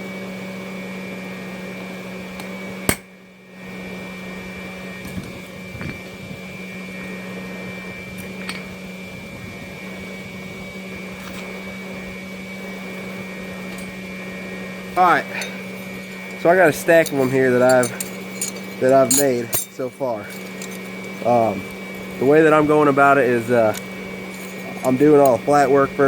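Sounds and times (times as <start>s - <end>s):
steady motor hum: 0.0s - 26.0s.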